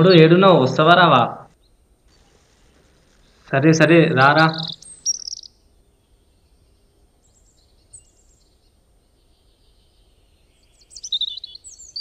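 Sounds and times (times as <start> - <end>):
faint outdoor background noise: 0.0 - 12.0
high bird chirps: 1.6 - 12.0.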